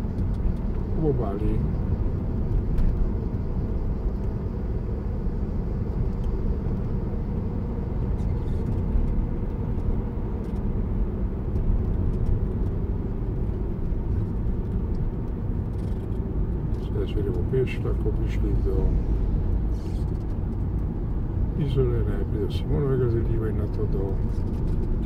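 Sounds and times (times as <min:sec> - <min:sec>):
car interior road rumble: 0:00.0 - 0:25.0.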